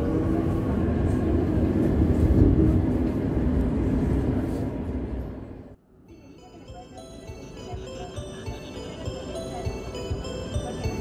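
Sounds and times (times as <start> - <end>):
train rumbling through tunnel: 0.0 - 11.0.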